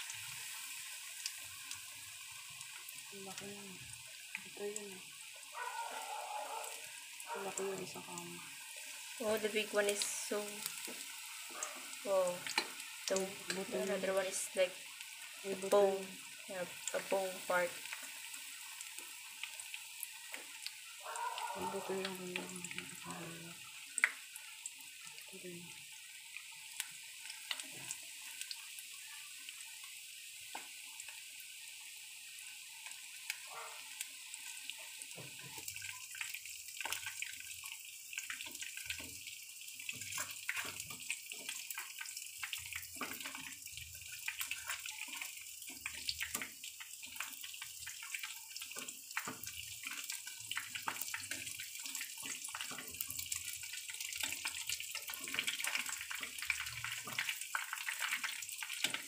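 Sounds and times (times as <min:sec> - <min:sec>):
chicken deep-frying in oil: 0:00.0 - 0:59.0.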